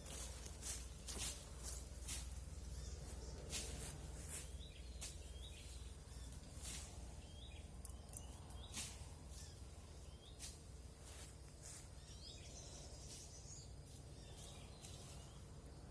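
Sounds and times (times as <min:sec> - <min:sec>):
small bird chirping: 0:00.0 - 0:15.9
steady low rumble: 0:00.0 - 0:15.9.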